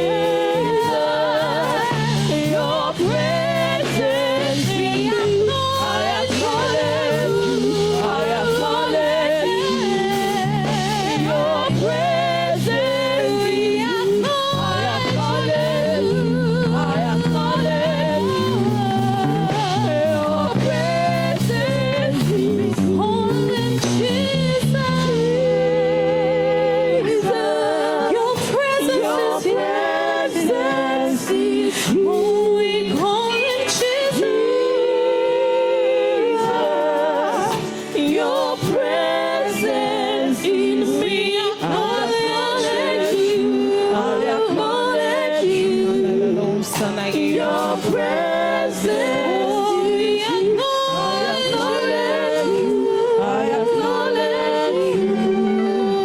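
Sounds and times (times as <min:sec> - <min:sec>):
group singing worship song: 0:00.0 - 0:56.0.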